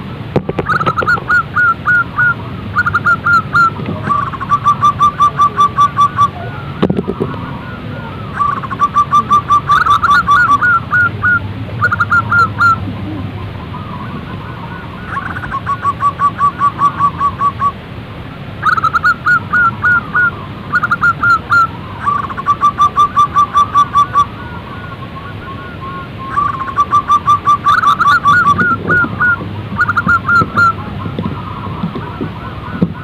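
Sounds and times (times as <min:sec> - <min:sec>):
dove cooing trill: 0:00.0 - 0:33.0
steady background hiss: 0:00.0 - 0:33.0.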